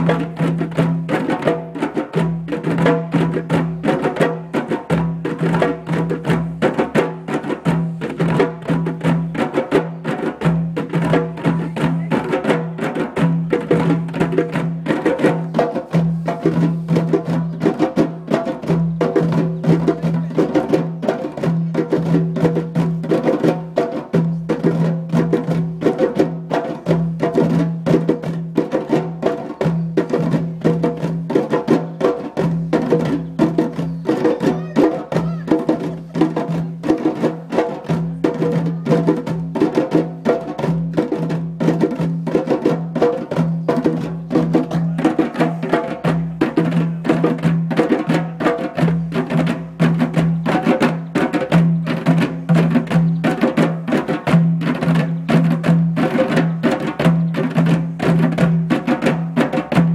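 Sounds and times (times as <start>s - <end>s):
djembes drumming: 0.0s - 59.9s.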